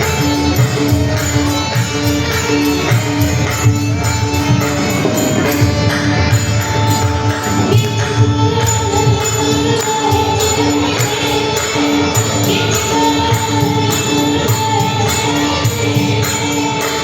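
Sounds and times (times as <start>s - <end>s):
jingling metal percussion: 0.0s - 17.0s.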